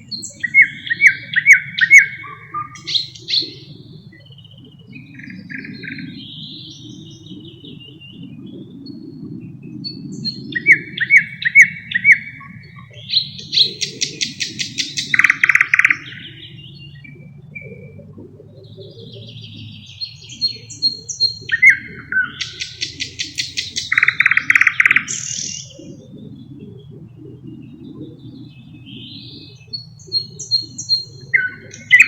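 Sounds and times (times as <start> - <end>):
nightingale singing: 0.0 - 8.7, 9.7 - 18.0, 18.7 - 32.0.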